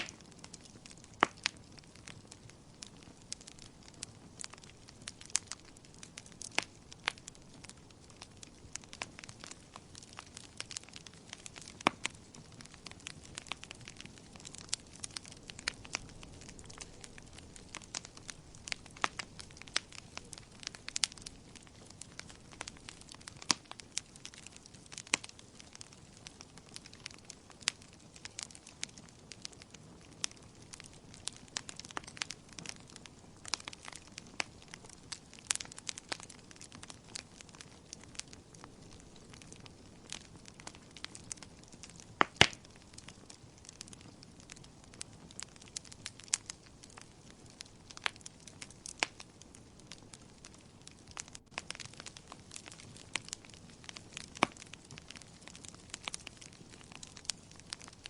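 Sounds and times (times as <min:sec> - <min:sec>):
fire crackling and popping: 0:00.0 - 0:58.0
low steady fire hiss: 0:00.0 - 0:58.0.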